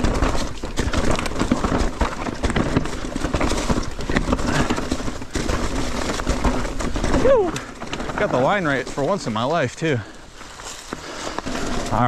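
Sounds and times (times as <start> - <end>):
bike clattering over rocks: 0.0 - 12.0.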